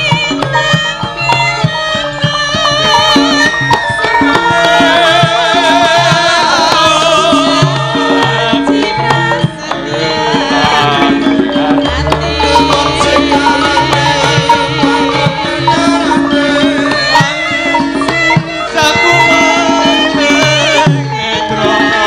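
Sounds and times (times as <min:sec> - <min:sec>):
gamelan music: 0:00.0 - 0:22.0
hand drum strokes: 0:00.0 - 0:22.0
person singing with vibrato: 0:00.0 - 0:22.0.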